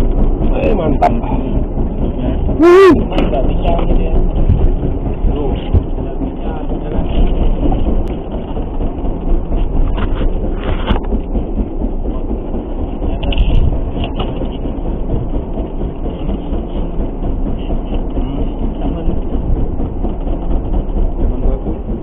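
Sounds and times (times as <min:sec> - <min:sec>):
boat rumbling and water washing: 0:00.0 - 0:22.0.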